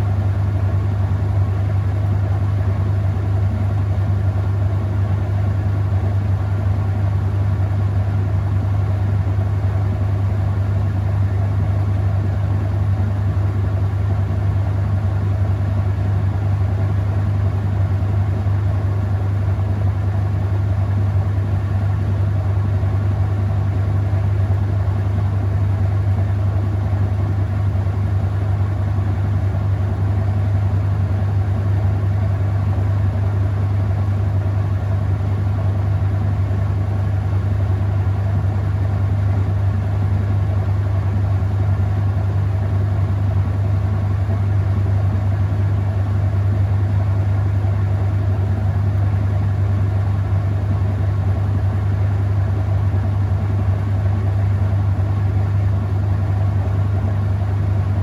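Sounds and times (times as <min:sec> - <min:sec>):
washing machine spinning: 0:08.0 - 0:58.0.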